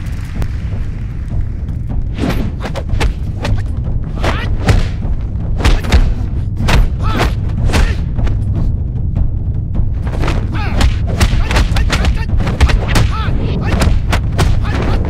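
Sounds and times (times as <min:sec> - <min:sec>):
low musical score: 0:00.0 - 0:15.0.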